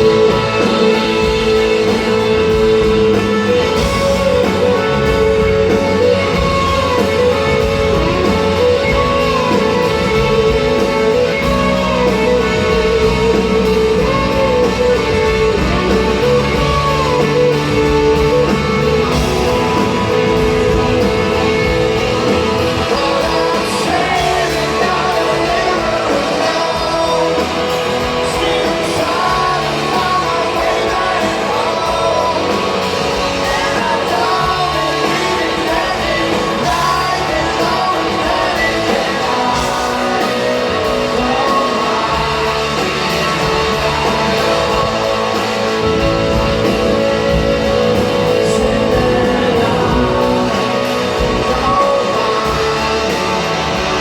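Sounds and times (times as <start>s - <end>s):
lead vocal singing: 0.0s - 54.0s
live rock band playing: 0.0s - 54.0s.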